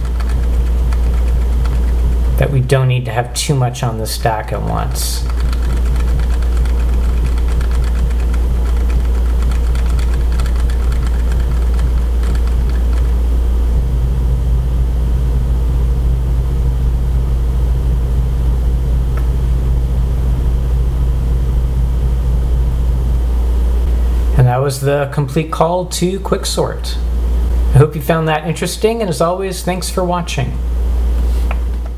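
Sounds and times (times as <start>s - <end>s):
loud low hum: 0.0s - 31.9s.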